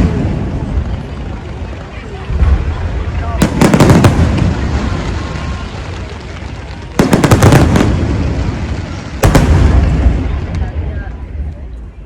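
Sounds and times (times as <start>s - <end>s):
fireworks bangs: 0.0s - 11.5s
fireworks rumble: 0.0s - 12.0s.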